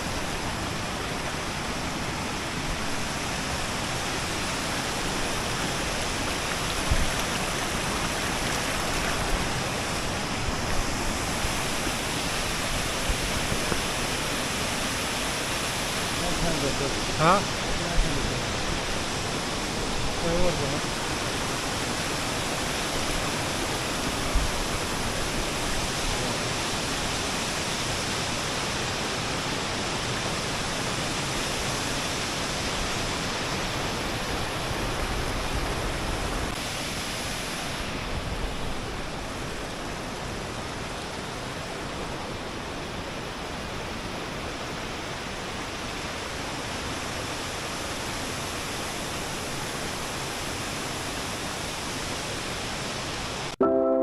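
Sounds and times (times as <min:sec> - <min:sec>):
waterfall rushing: 0:00.0 - 0:53.6.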